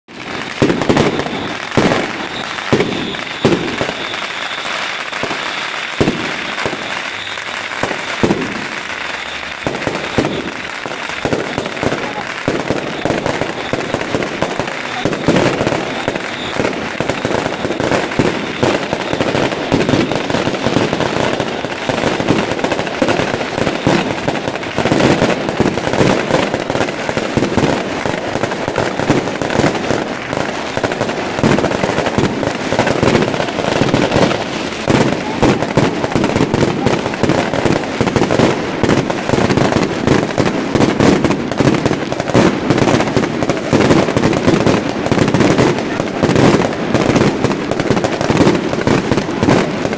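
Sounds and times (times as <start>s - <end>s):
fireworks crackling: 0.0s - 49.9s.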